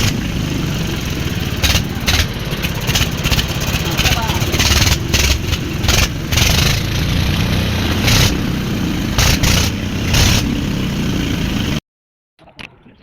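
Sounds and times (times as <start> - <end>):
diesel engine running: 0.0 - 11.8
loud hiss bursts: 0.0 - 11.8.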